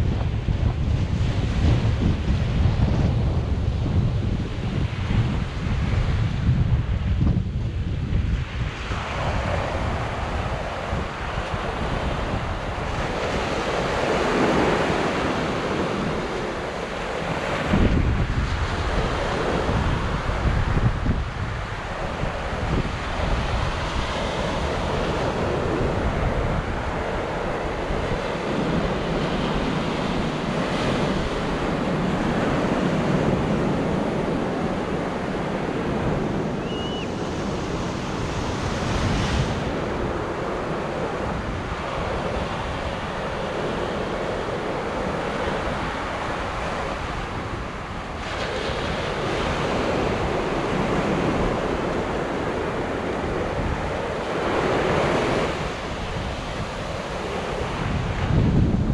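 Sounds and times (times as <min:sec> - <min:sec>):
surf breaking on beach: 0:00.0 - 0:58.9
wind buffeting microphone: 0:00.0 - 0:58.9.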